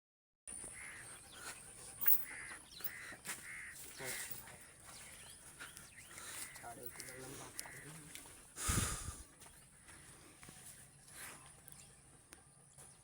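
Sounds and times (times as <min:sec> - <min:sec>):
bird calls: 0:00.5 - 0:13.0.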